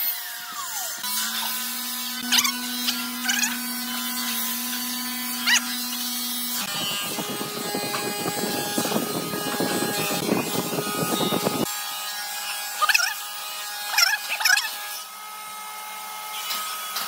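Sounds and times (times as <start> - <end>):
small power tool humming: 0.0 - 17.0.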